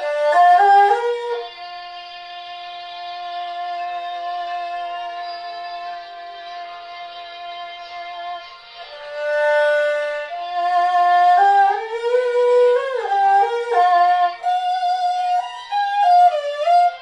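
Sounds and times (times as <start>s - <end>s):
bowed erhu melody: 0.0s - 17.0s.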